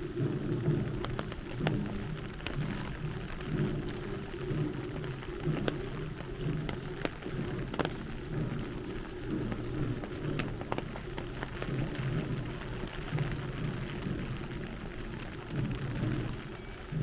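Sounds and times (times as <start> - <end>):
heavy rain falling: 0.0 - 17.0
sharp taps of raindrops: 0.0 - 17.0.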